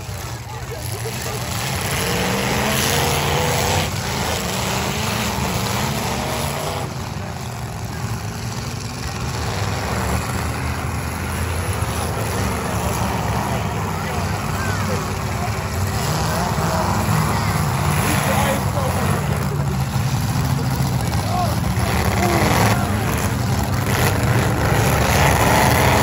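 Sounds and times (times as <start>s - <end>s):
arena noise: 0.0s - 26.0s
car engines droning: 0.0s - 26.0s.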